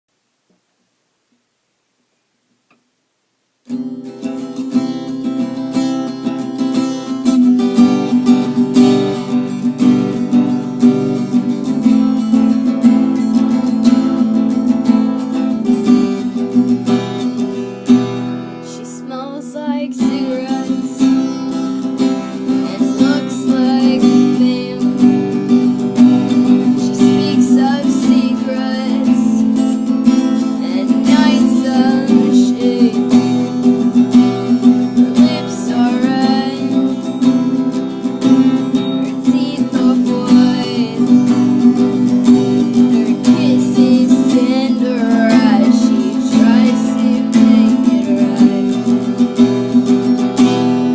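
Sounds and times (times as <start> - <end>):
acoustic guitar strumming: 3.6 - 50.9.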